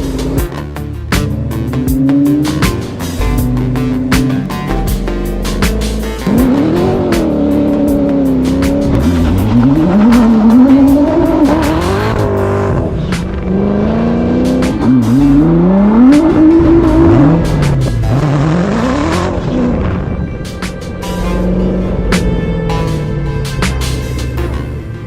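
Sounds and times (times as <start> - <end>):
sports car engine accelerating: 0.0 - 25.0.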